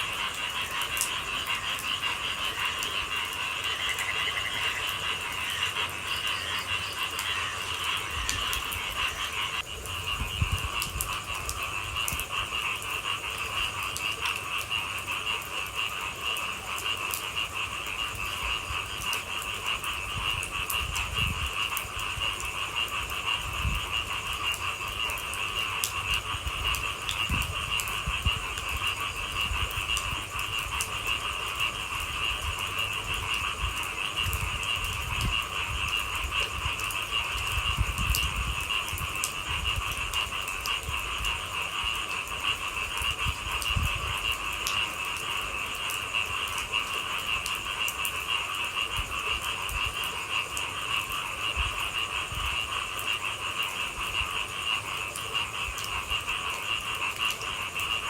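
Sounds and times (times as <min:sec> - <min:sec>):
chorus of frogs calling: 0:00.0 - 0:58.0
light raindrop ticks: 0:00.0 - 0:58.0.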